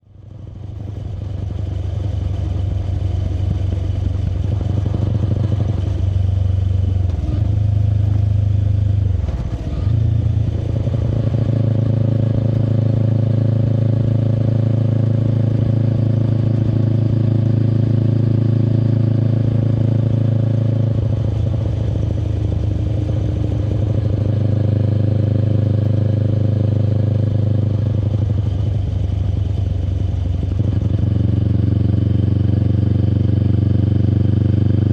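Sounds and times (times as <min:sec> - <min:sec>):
motorcycle exhaust: 0:00.2 - 0:34.9.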